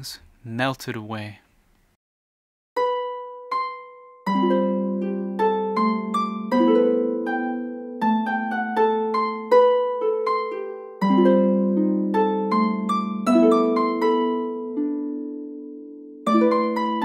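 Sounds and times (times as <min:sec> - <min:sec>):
harp playing: 0:02.8 - 0:17.0.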